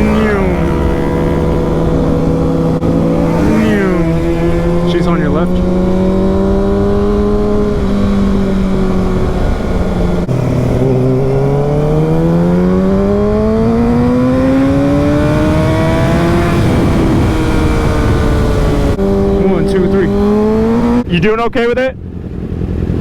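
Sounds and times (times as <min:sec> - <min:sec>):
motorcycle engine accelerating: 0:00.0 - 0:23.0
wind rush: 0:00.0 - 0:23.0.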